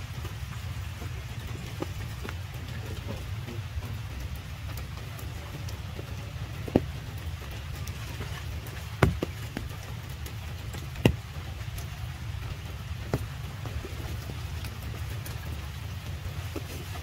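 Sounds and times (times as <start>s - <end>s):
loud close raindrops: 0.0s - 17.0s
rain falling on puddles: 0.0s - 17.0s.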